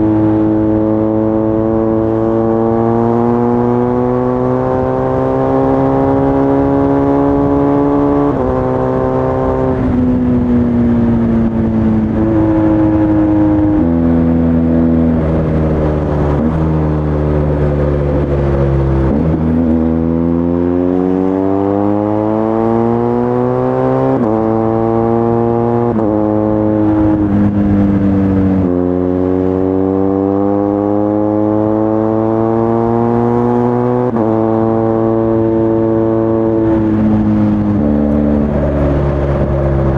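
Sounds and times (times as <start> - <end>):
motorcycle engine being ridden: 0.0 - 39.9.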